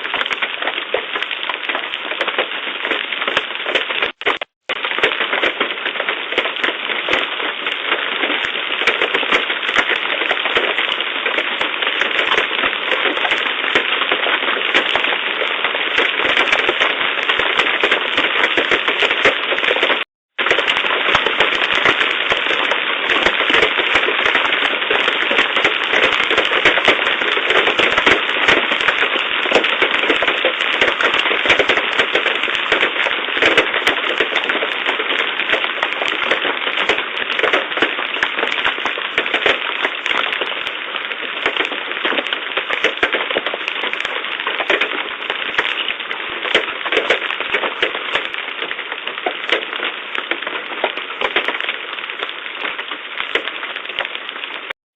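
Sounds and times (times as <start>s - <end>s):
hailstones striking hard surfaces: 0.0s - 54.7s.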